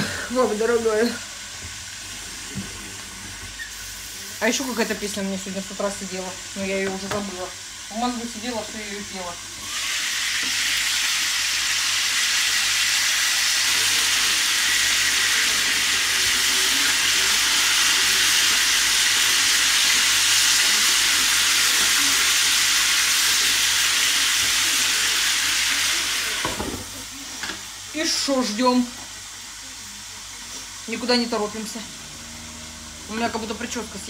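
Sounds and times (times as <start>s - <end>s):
peppers sizzling in a frying pan: 0.0s - 34.0s.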